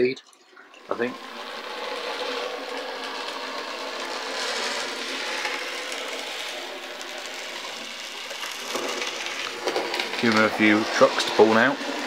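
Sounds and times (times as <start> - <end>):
model train motor whirring: 0.7 - 12.0.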